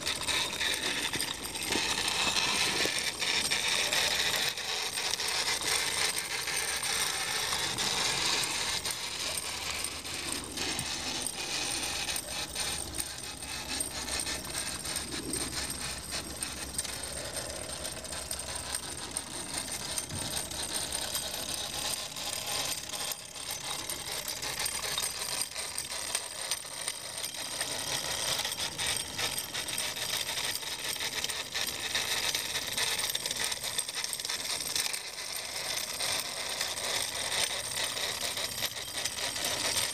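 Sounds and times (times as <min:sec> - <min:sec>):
model steam engine clatter: 0:00.0 - 0:39.9.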